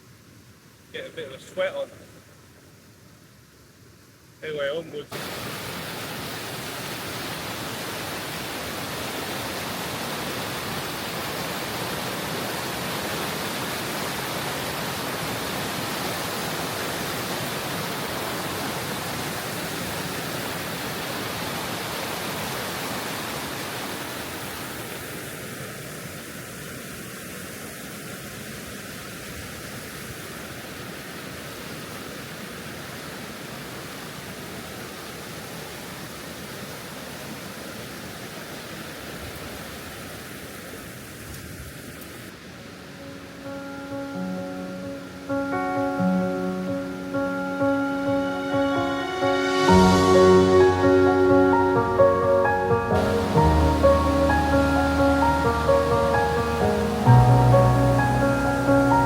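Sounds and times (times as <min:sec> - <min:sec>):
river rushing over falls: 0:03.9 - 0:59.0.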